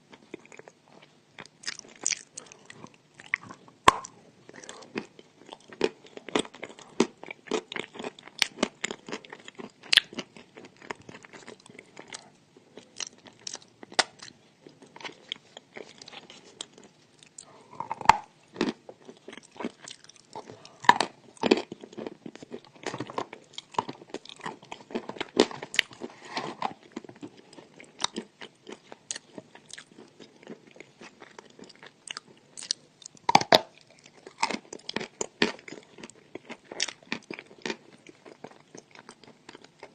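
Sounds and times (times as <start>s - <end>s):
person chewing and crunching chalk: 0.0s - 39.9s.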